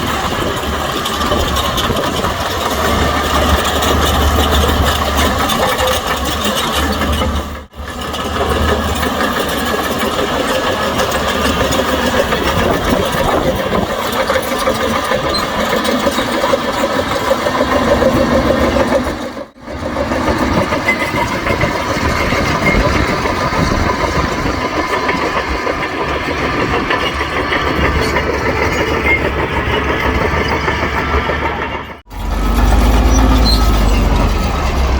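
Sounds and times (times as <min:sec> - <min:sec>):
heavy equipment diesel engine: 0:00.0 - 0:34.9.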